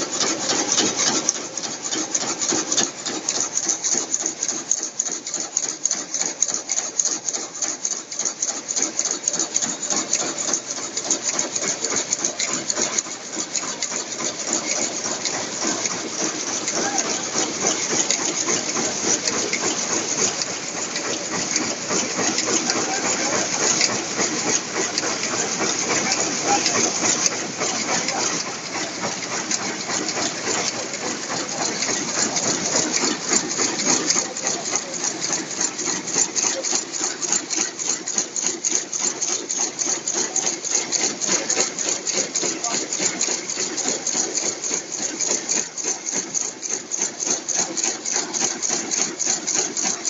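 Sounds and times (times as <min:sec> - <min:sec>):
loom clattering: 0:00.0 - 0:50.0.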